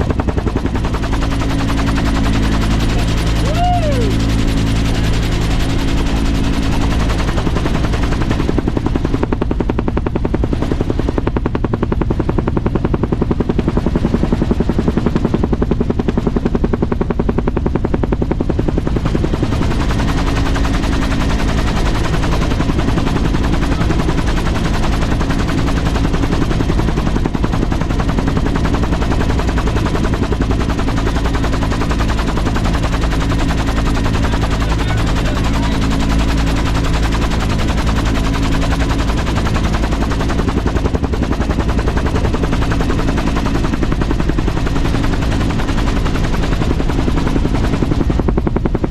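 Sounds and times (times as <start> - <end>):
loud engine pulsing: 0.0 - 15.5, 18.1 - 48.9.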